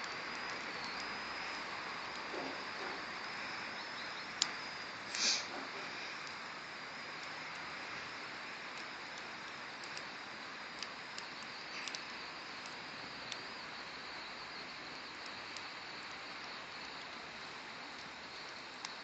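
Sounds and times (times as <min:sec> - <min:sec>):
bonfire hissing: 0:00.0 - 0:19.0
fire crackling pops: 0:00.0 - 0:19.0.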